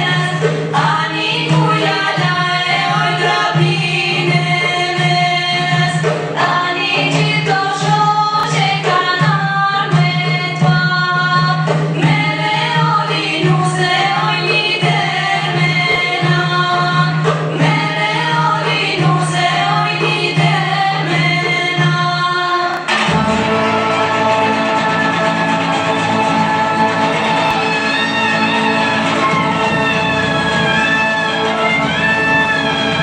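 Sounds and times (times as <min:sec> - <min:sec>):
group of voices singing: 0:00.0 - 0:33.0.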